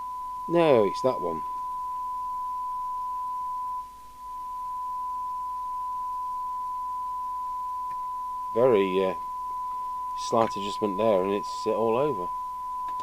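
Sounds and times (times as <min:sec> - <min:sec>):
high-pitched test tone: 0:00.0 - 0:13.0.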